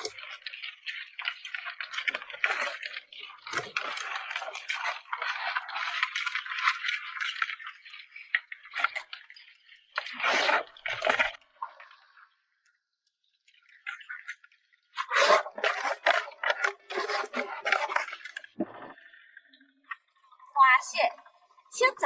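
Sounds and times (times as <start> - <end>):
crabs clicking and clattering: 0.0 - 20.6.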